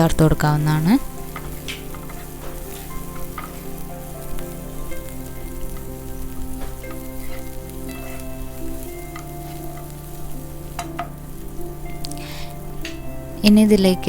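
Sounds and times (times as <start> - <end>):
small crackles of frying: 0.0 - 14.0
vegetables sizzling in oil: 0.0 - 14.0.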